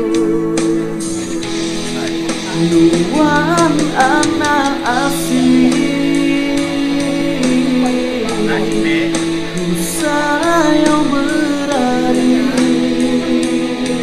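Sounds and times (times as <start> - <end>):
person singing: 0.0 - 14.0
plucked guitar: 0.0 - 14.0.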